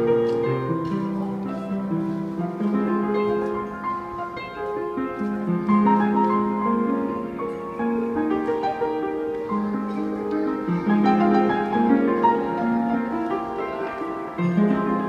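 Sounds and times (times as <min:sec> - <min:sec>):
upright piano melody: 0:00.0 - 0:15.0.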